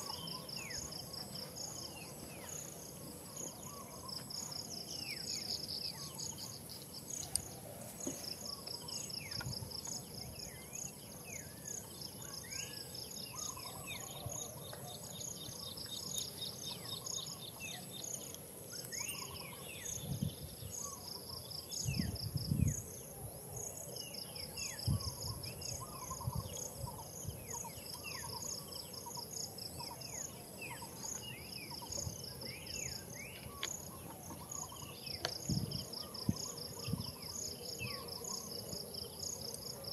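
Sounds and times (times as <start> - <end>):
insects chirping in pulsed trains: 0.0 - 39.9.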